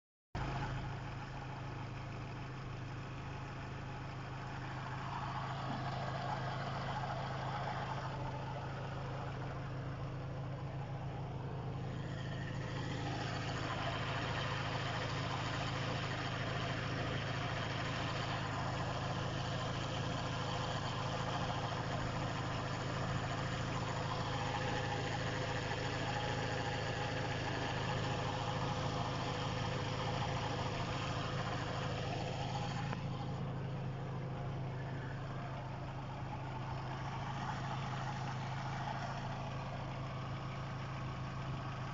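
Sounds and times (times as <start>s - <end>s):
car engine idling: 0.4s - 41.9s
unidentified engine noise: 0.4s - 41.9s.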